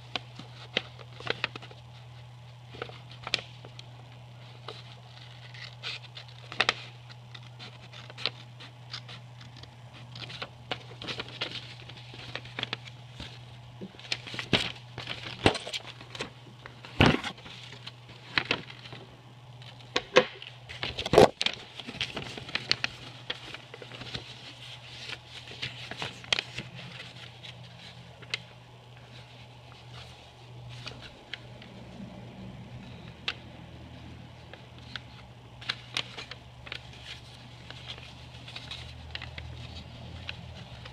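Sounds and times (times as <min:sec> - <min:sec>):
paper rustling and crinkling: 0:00.0 - 0:32.0, 0:32.8 - 0:40.9
low steady hum: 0:00.0 - 0:40.9.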